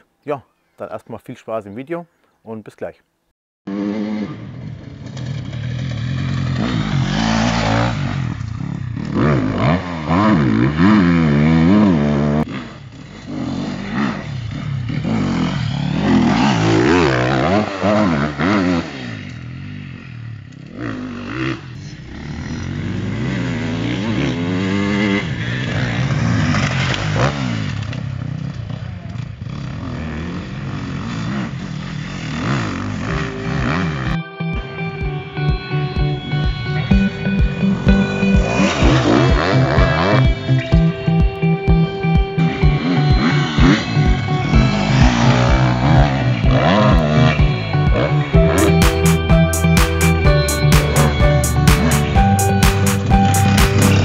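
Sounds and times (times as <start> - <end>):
motorcycle engine revving: 3.7 - 54.0.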